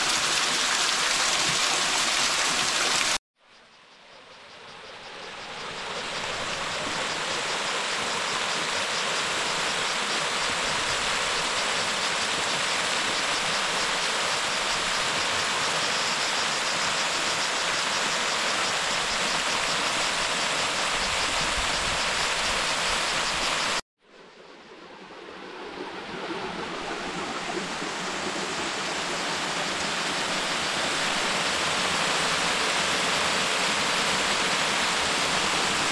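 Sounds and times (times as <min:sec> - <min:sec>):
rushing water: 0:00.0 - 0:03.2, 0:05.6 - 0:23.8, 0:24.5 - 0:35.9.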